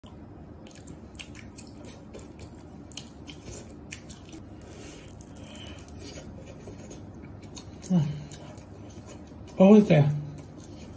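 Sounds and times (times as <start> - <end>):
chewing and eating: 0.0 - 10.9.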